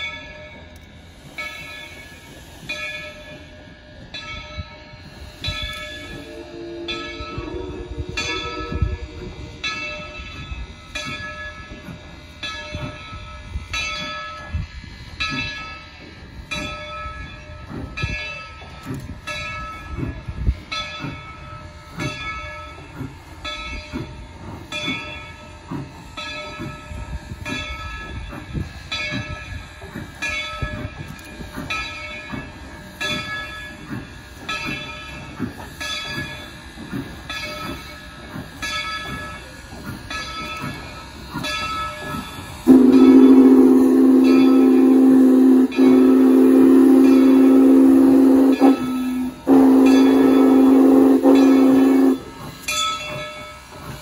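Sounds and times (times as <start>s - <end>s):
locomotive bell ringing: 0.0s - 54.0s
moving train rumble: 0.0s - 54.0s.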